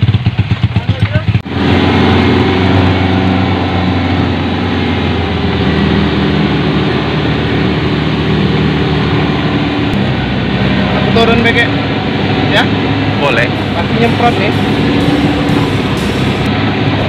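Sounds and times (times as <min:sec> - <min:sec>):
jeep engine running at low revs: 0:00.0 - 0:17.0.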